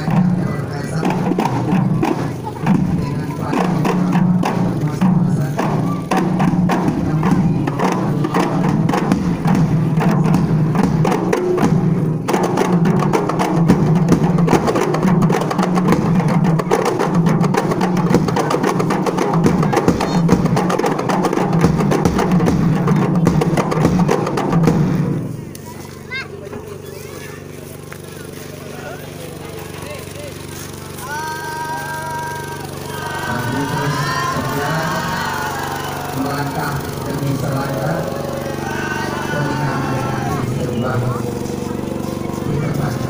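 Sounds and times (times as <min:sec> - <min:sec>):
frame drums beaten fast: 0:00.0 - 0:25.5, 0:28.2 - 0:43.0.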